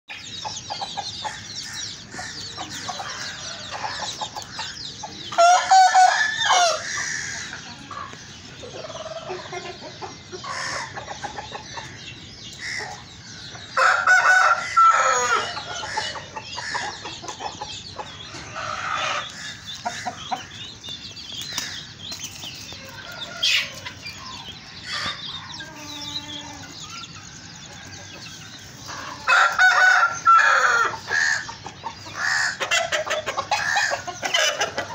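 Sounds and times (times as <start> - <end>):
chickens clucking: 0.1 - 34.9
roosters crowing: 0.2 - 17.2, 17.9 - 34.9.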